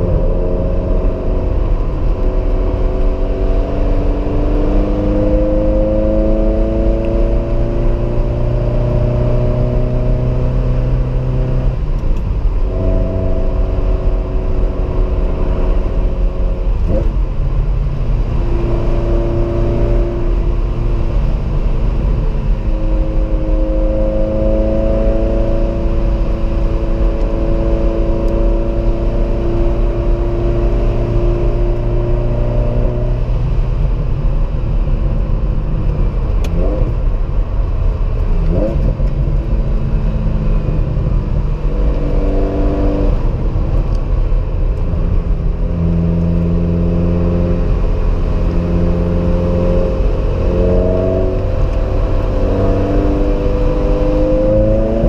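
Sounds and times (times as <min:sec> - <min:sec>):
car engine under load: 0:00.0 - 0:55.0
road rumble: 0:00.0 - 0:55.0.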